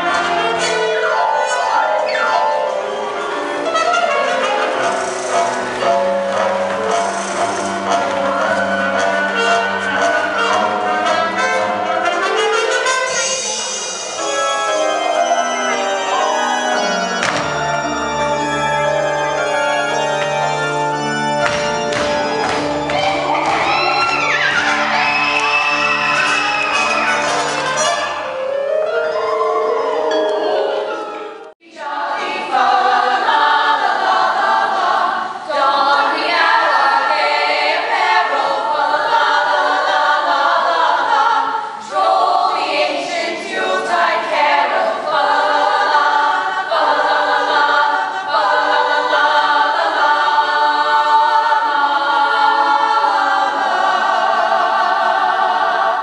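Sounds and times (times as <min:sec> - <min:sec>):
music: 0:00.0 - 0:56.0
women's choir singing in harmony: 0:00.0 - 0:56.0.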